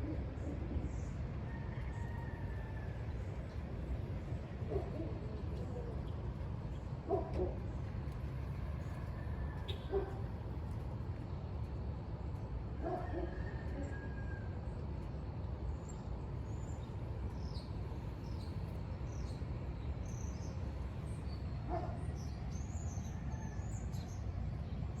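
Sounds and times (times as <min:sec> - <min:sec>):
background rumble and hiss: 0:00.0 - 0:25.0.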